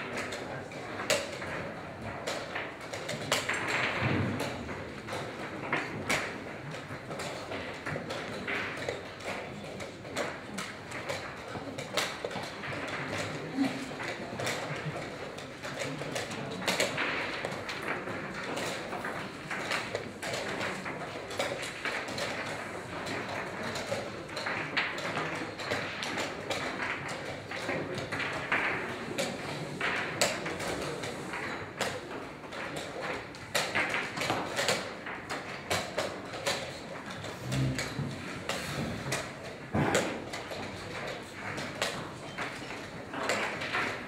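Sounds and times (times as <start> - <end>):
chess pieces knocking on board: 0.0 - 44.0
room noise: 0.0 - 44.0.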